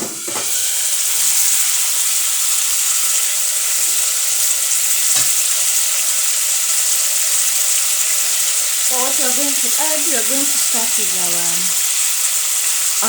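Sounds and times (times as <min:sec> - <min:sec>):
tripe sizzling in a pan: 0:00.0 - 0:13.0.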